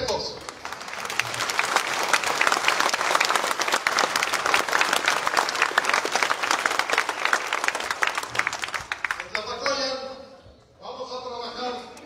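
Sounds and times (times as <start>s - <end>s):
large audience applauding: 0.0s - 10.0s.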